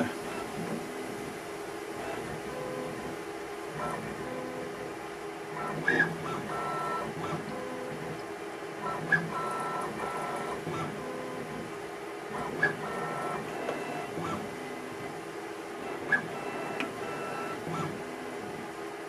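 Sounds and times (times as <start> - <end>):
mill axis drives whining: 0.0 - 19.0.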